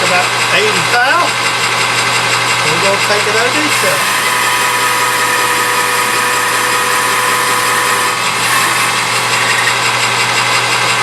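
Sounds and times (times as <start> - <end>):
metal lathe whining: 0.0 - 11.0.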